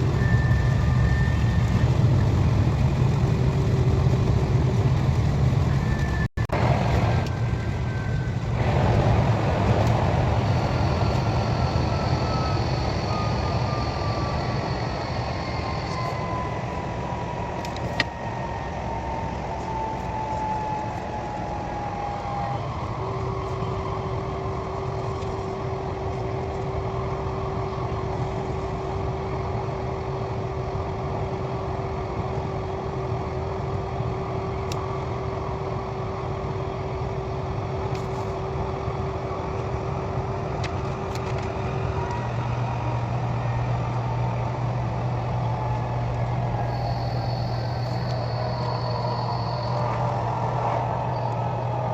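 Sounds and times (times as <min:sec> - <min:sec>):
train running rumble: 0:00.0 - 0:51.9.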